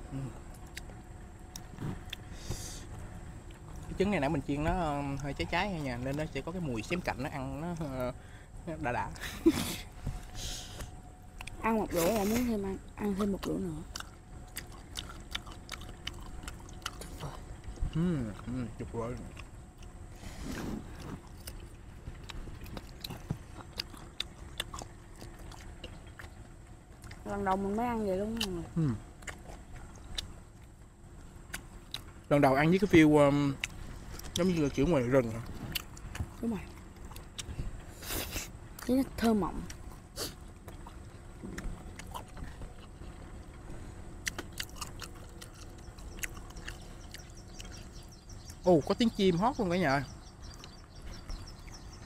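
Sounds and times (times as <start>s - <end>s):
chewing with wet smacks: 0.1s - 8.2s, 10.8s - 52.0s.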